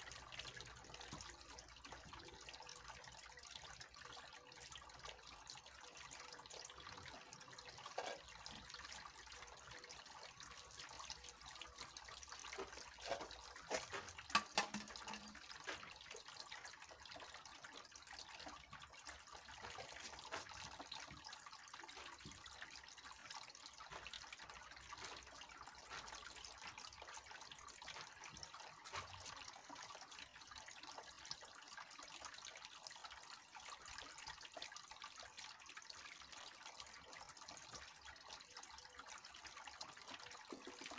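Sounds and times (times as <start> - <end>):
fountain water trickling: 0.0 - 40.9.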